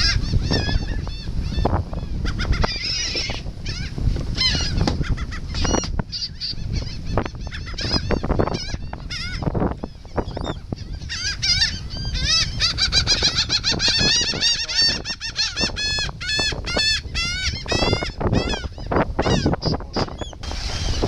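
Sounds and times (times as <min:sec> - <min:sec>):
gulls calling: 0:00.0 - 0:21.0.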